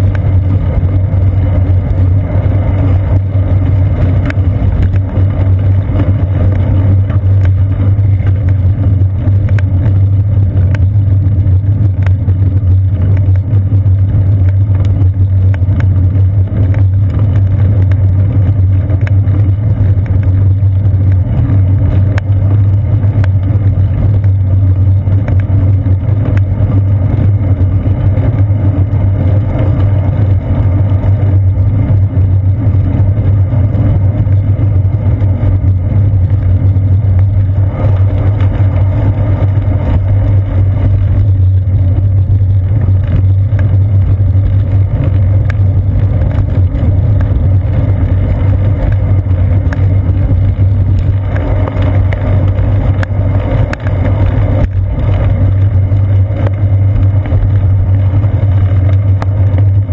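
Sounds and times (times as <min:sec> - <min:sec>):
bicycle road vibration: 0:00.0 - 0:59.9
wind rumble: 0:00.0 - 0:59.9.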